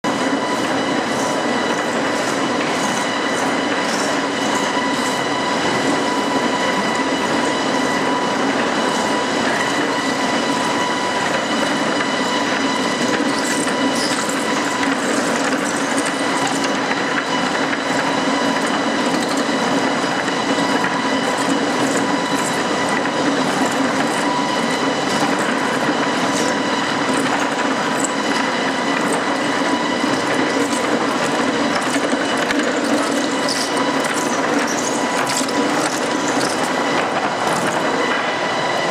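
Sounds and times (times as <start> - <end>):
constant machine whine: 0.0 - 38.9
planer feed mechanical rattle: 0.0 - 38.9.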